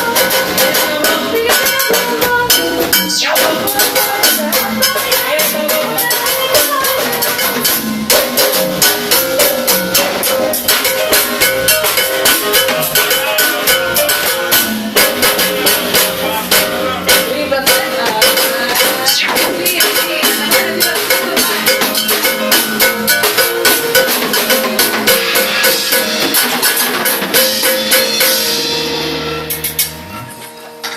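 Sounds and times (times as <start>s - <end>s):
drum kit fast steady beat: 0.0s - 30.9s
live band playing instrumental: 0.0s - 30.9s.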